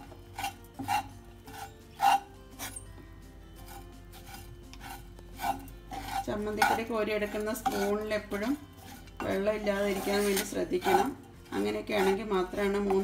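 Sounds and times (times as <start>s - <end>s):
spatula scraping a pan: 0.0s - 2.8s, 3.5s - 13.0s.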